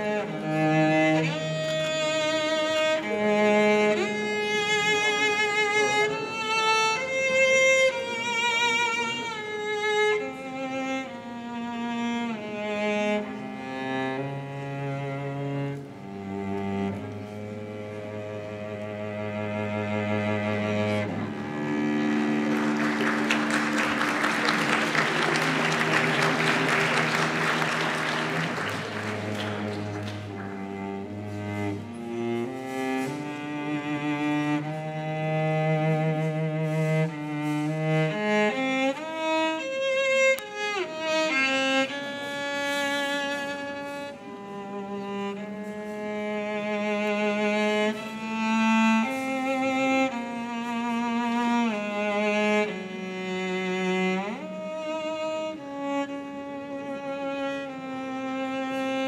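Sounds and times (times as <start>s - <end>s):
solo cello melody: 0.0s - 59.0s.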